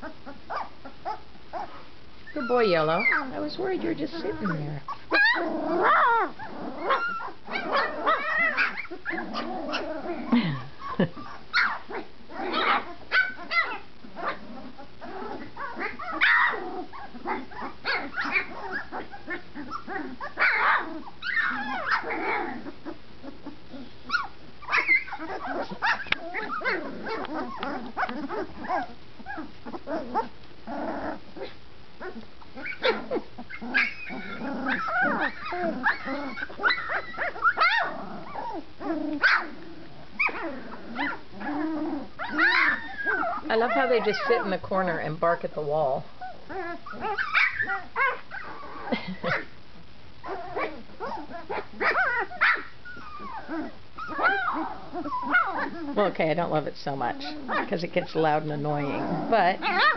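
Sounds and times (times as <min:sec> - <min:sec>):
puppies barking and yelping: 0:00.0 - 0:45.4, 0:46.0 - 0:49.6, 0:50.2 - 0:56.1, 0:57.1 - 0:58.1, 0:58.7 - 0:59.9.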